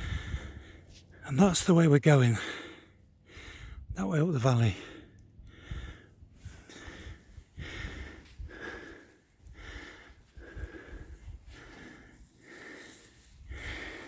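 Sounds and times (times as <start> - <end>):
man breathing hard: 0.0 - 1.2, 2.4 - 4.0, 4.6 - 14.0.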